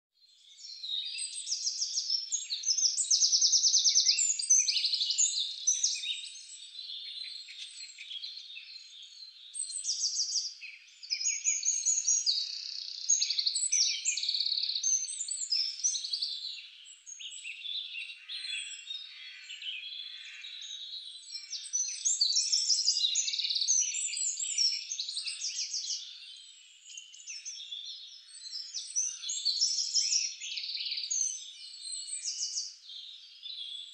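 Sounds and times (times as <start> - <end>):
small songbirds chirping and trilling: 0.2 - 33.9.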